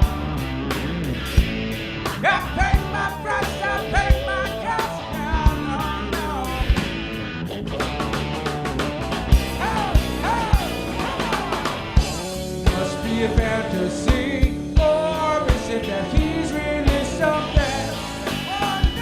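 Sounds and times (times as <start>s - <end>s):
bass: 0.0s - 19.0s
drums: 0.0s - 19.0s
sliding lead guitar line: 0.0s - 19.0s.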